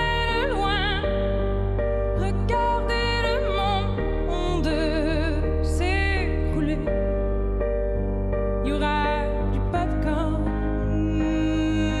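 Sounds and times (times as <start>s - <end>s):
woman singing with vibrato: 0.0s - 7.0s, 8.6s - 12.0s
piano chords: 0.0s - 12.0s.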